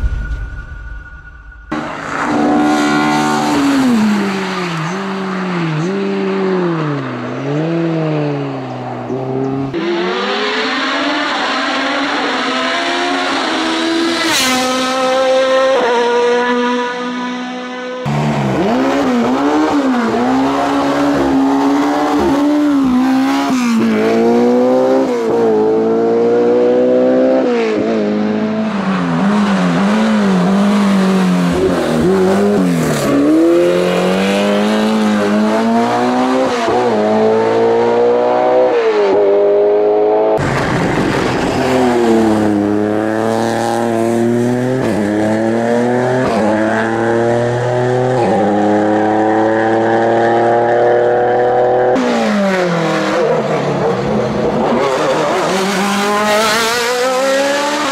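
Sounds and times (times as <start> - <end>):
race car engines revving: 1.7 - 57.9.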